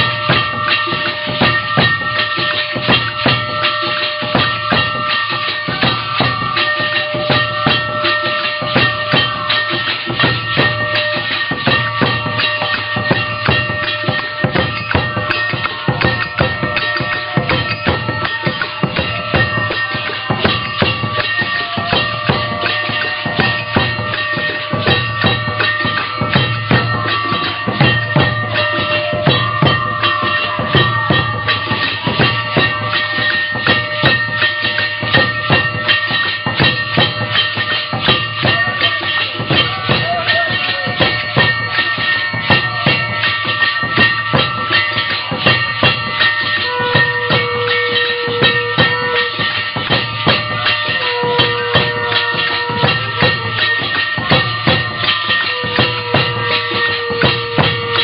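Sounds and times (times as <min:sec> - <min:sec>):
drums: 0:00.0 - 0:58.0
rapid metal percussion strikes: 0:00.0 - 0:58.0
steady ringing tones: 0:00.0 - 0:58.0.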